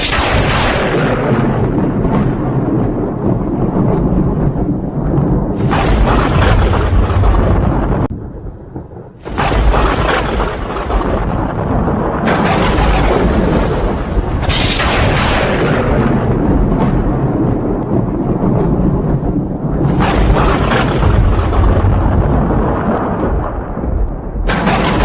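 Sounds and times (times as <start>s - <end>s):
thunder rumbling and cracking: 0.0s - 25.0s.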